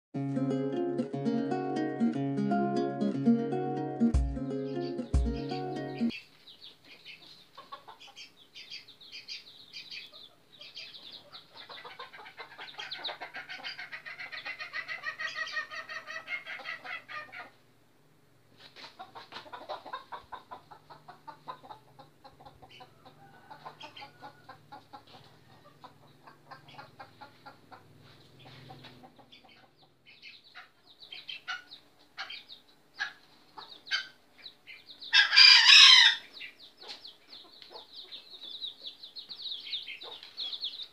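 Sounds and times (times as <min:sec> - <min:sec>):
chickens clucking: 0:03.7 - 0:17.7, 0:18.4 - 0:40.9.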